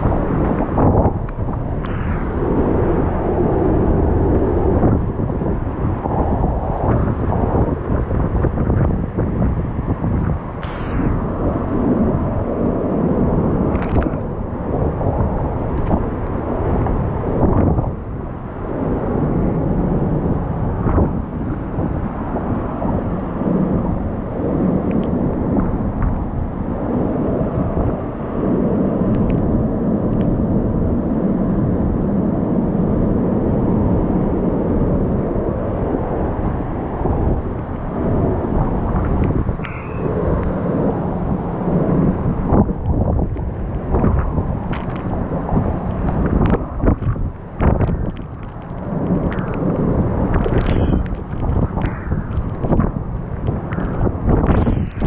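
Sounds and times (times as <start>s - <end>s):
hurricane wind gusting: 0.0s - 55.0s
wind buffeting microphone: 0.0s - 55.0s.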